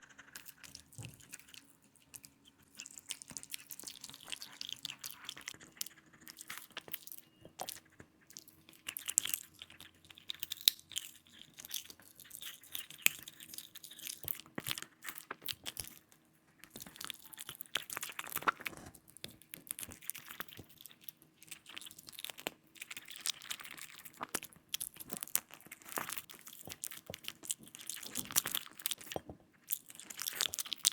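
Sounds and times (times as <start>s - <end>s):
dog crunching and chewing food: 0.0s - 30.9s.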